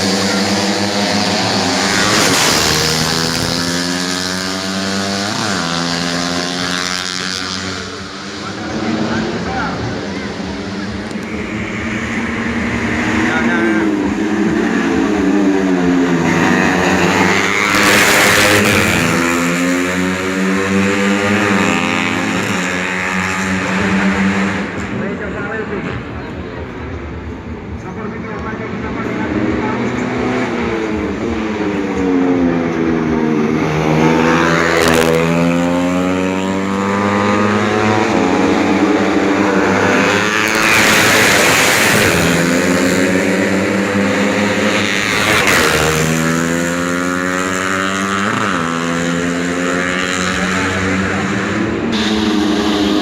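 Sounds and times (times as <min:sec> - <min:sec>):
motorcycles revving high: 0:00.0 - 0:26.0, 0:27.9 - 0:53.0.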